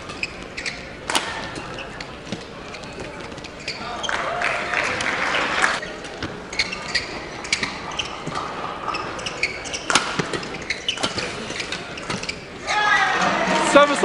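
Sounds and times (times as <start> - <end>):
rackets hitting shuttlecock: 0.0 - 13.6
shoes squeaking on court: 0.0 - 14.0.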